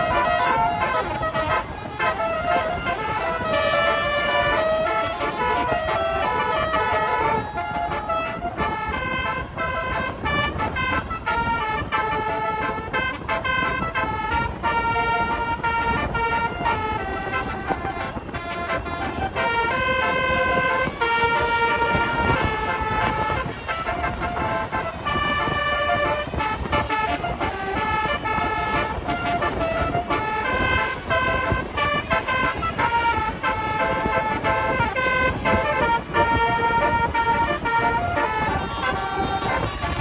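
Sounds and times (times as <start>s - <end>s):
bus air horn melody: 0.0s - 40.0s
low traffic rumble: 0.0s - 40.0s.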